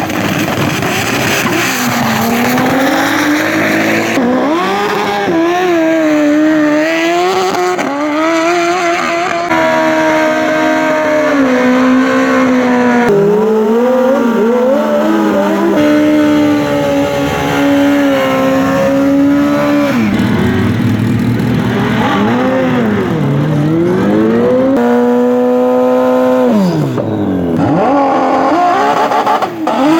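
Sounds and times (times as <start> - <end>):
race car engines revving: 0.0 - 29.9.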